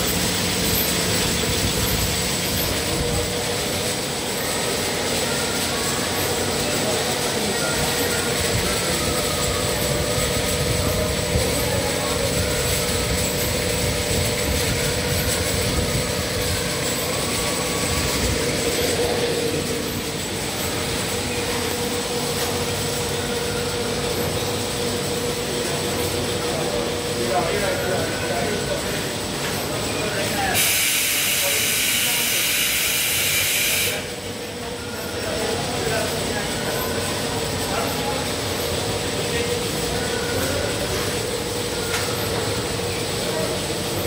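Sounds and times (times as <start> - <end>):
constant high tone: 0.0 - 30.6, 31.4 - 44.0
machine mechanical drone: 0.0 - 44.0.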